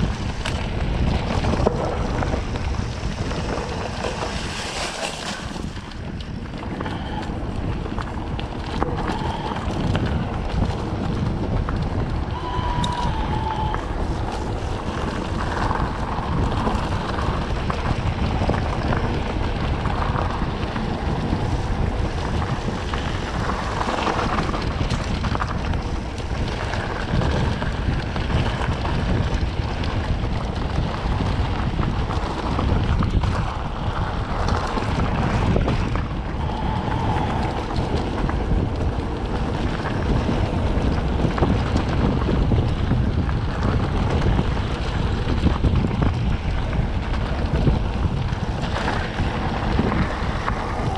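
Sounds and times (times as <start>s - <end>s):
low rumble of movement: 0.0s - 50.9s
wind buffeting microphone: 0.0s - 50.9s.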